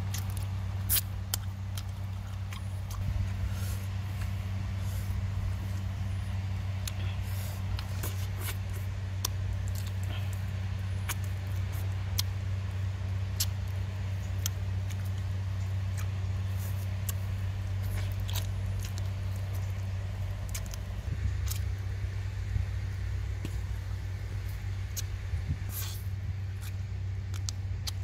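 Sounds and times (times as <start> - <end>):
man chewing crunchy food: 0.0 - 21.8, 24.5 - 28.0
low motor drone: 0.0 - 28.0.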